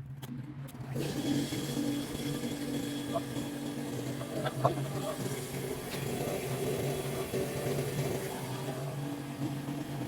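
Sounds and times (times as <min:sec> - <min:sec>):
water pump motor humming: 0:00.9 - 0:10.0.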